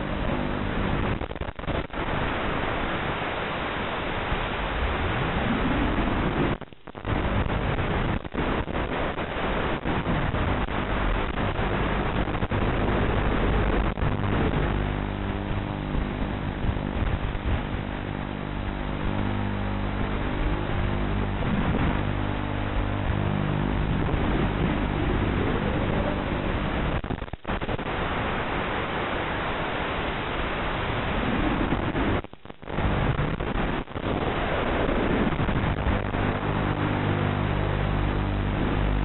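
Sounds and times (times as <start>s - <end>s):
radio static crackles: 0.0s - 39.0s
radio static hiss: 0.0s - 39.0s.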